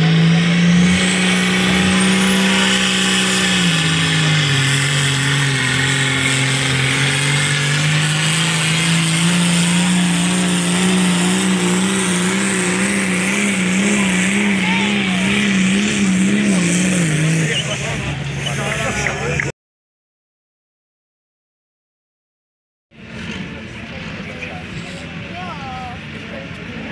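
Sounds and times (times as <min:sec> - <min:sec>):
diesel tractor engine under load: 0:00.0 - 0:19.5, 0:23.0 - 0:26.9.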